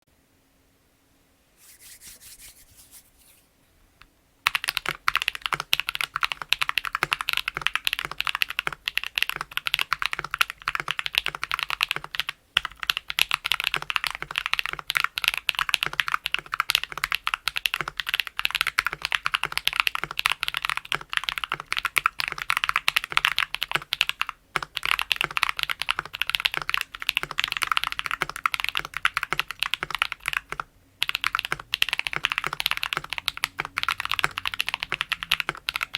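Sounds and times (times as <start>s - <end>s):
fast typing on mechanical keyboard: 4.5s - 35.9s.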